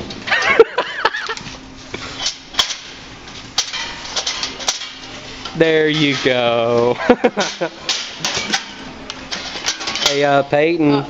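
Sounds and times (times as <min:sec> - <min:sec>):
skis clacking against metal: 0:02.0 - 0:11.0.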